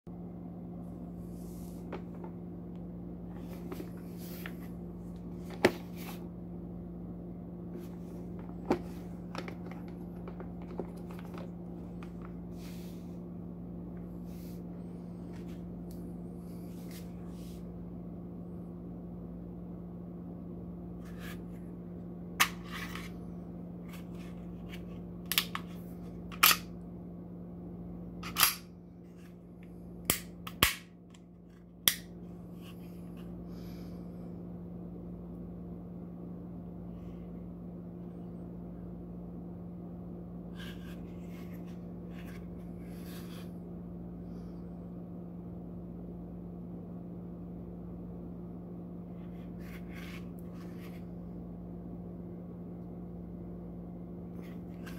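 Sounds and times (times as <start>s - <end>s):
steady low hum: 0.1s - 54.9s.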